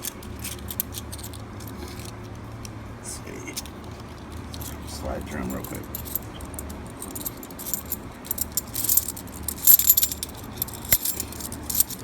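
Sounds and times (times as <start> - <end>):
coins clinking: 0.0 - 2.1, 4.2 - 12.0
steady low hum: 0.0 - 12.0.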